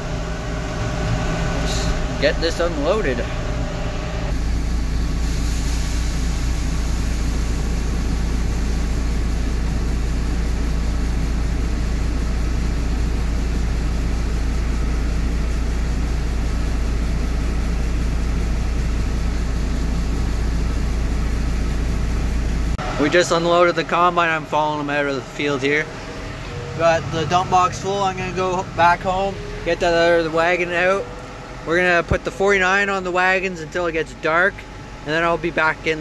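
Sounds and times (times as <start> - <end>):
tractor and combine engines running: 0.0 - 36.0.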